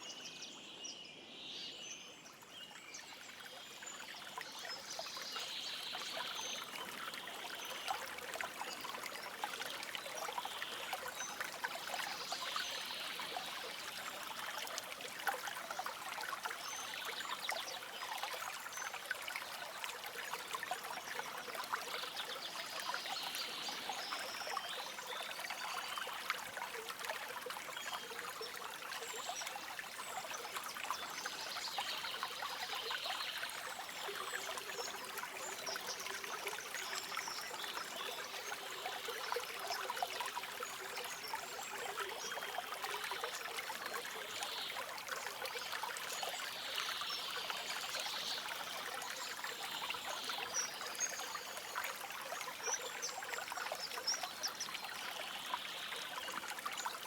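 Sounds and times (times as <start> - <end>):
shallow stream babbling: 2.2 - 57.0.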